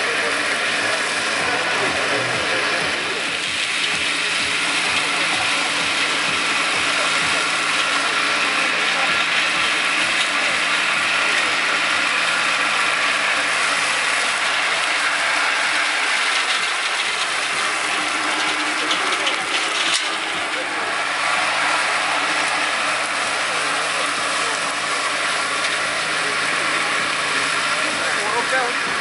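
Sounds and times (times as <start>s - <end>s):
drum mower cutting grass: 0.0s - 29.0s
tractor engine under load: 0.0s - 29.0s.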